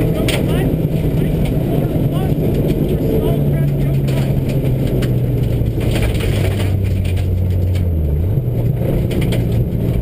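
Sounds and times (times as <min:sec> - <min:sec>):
rally car engine: 0:00.0 - 0:10.0
tyres rumbling on gravel: 0:00.0 - 0:10.0.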